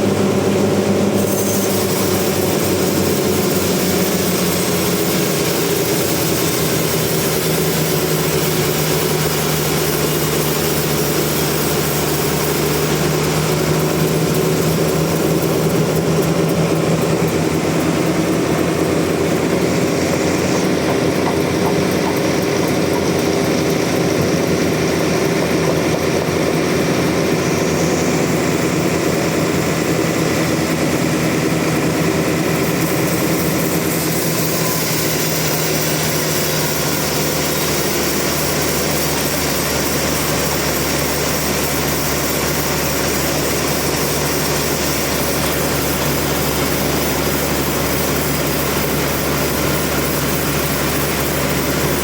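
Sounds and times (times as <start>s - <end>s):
sawmill engine drone with hiss: 0.0s - 52.0s.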